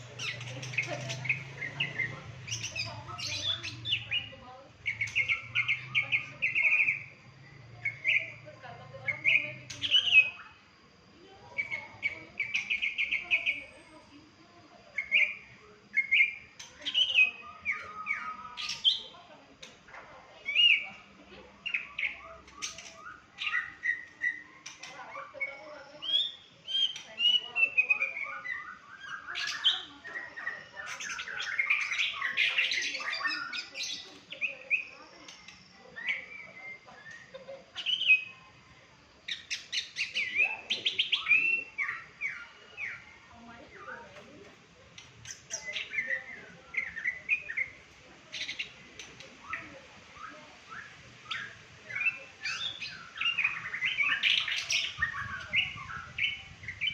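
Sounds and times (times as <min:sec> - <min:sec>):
songbird singing: 0:00.0 - 0:56.9.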